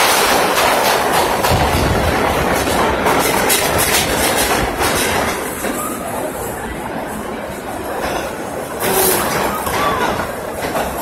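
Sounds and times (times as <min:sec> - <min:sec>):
subway wheels clattering over rail joints: 0:00.0 - 0:11.0.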